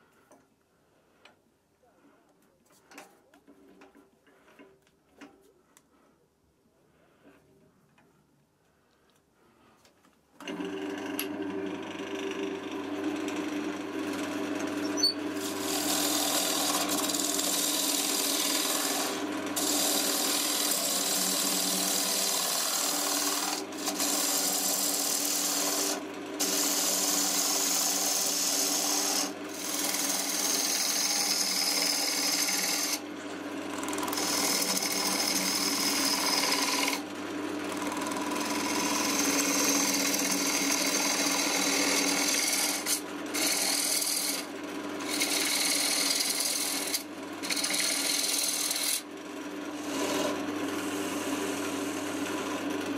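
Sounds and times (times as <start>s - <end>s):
turning tool cutting wood: 10.4s - 52.9s
wood lathe humming: 10.4s - 52.9s.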